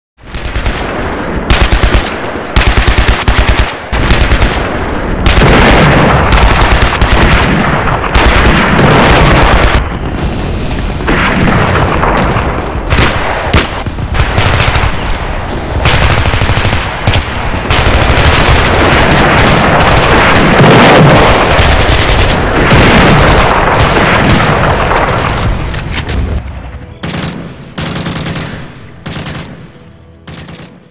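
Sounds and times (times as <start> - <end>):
machine-gun fire: 0.2 - 10.0, 11.0 - 26.1, 27.0 - 29.7
explosion blasts: 3.8 - 28.9.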